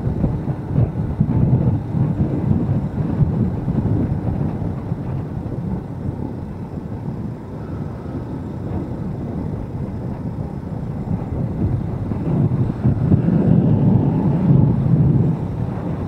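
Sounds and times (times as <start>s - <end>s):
motorcycle rumble: 0.0s - 16.0s
wind rushing over microphone: 0.0s - 16.0s.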